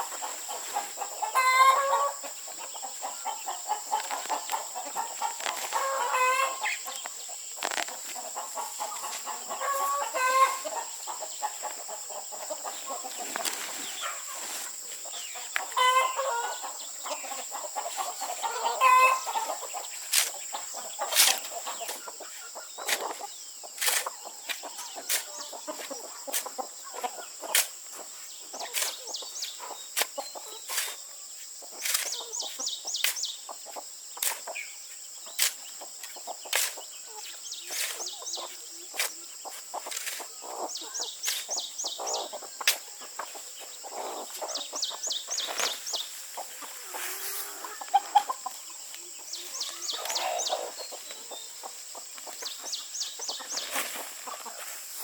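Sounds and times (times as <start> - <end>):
chickens clucking: 0.0 - 55.0
chicks peeping: 0.0 - 55.0.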